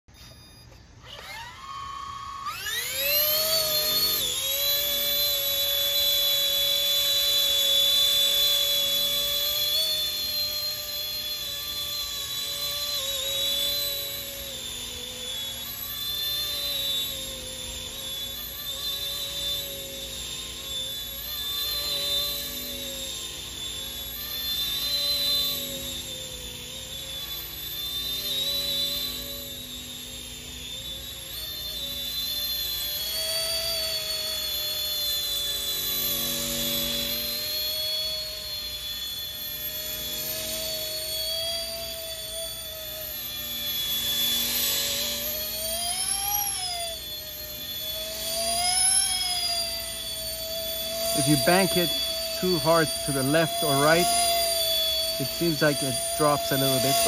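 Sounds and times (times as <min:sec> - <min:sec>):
model helicopter motor whining: 0:00.1 - 0:57.0.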